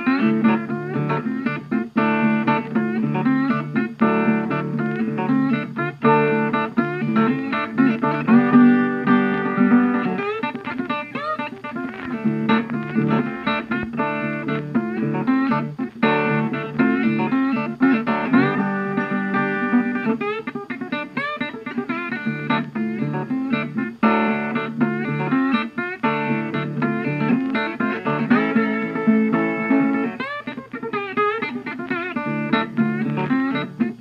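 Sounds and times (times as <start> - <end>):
guitar music with bending notes: 0.0 - 34.0.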